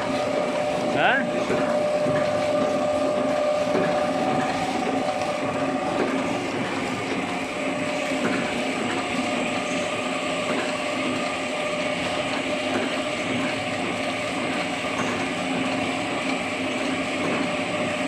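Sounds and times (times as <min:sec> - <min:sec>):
machine whining tones: 0:00.0 - 0:15.3
packaging machine hum: 0:00.0 - 0:18.0.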